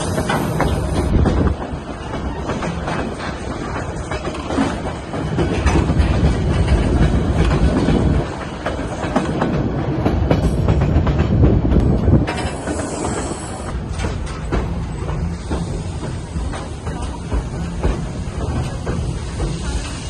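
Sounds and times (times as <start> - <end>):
train rumbling along track: 0.0 - 20.0
wheel clatter over rails: 0.0 - 20.0.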